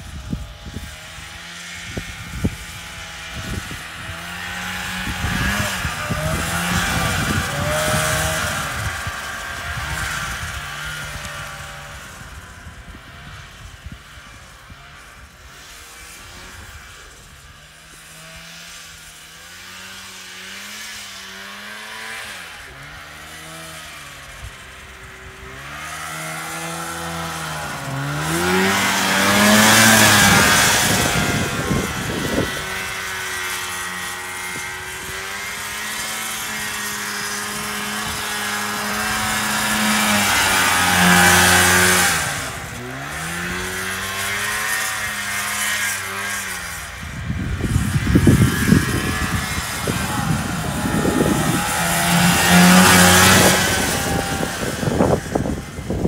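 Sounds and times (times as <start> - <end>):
snowmobile engine: 0.0 - 56.0.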